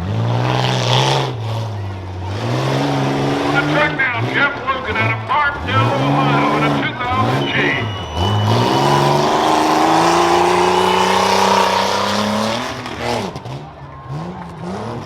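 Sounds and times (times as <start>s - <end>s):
truck engine at full throttle: 0.0s - 15.0s.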